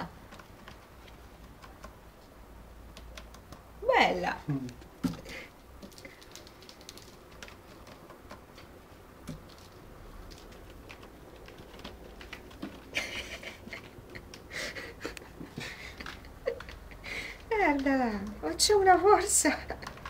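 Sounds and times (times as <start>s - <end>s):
kittens scratching and pattering: 0.0s - 20.0s.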